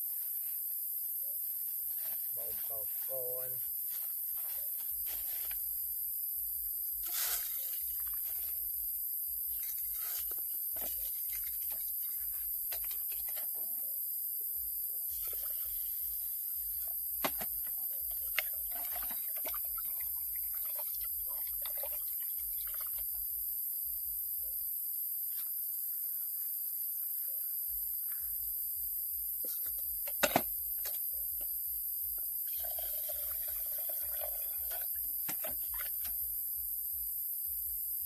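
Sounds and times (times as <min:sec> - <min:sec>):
steady high-pitched hiss: 0:00.0 - 0:38.0.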